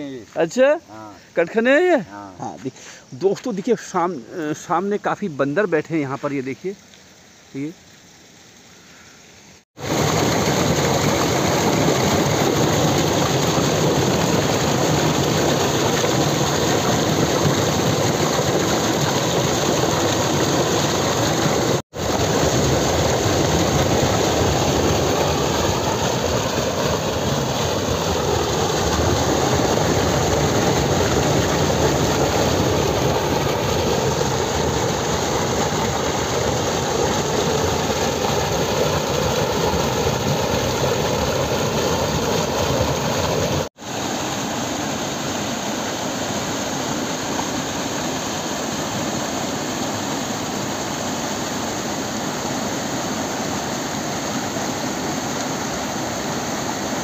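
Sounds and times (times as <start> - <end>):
stream water rushing: 9.8 - 57.0.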